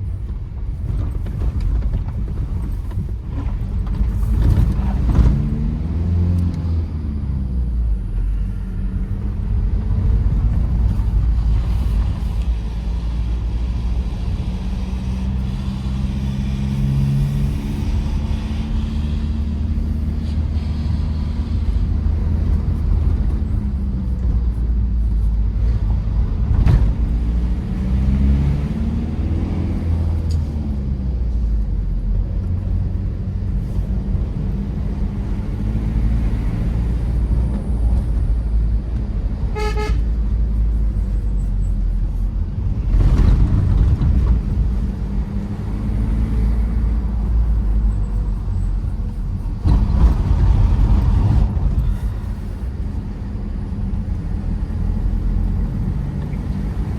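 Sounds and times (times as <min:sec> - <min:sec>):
diesel engine running: 0:00.0 - 0:56.9
tyre and road noise: 0:00.0 - 0:56.9.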